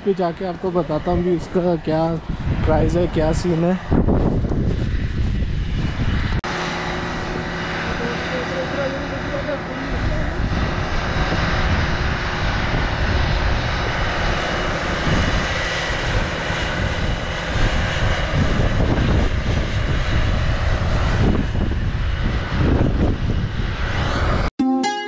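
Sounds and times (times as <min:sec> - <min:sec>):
wind buffeting microphone: 0:00.0 - 0:24.5.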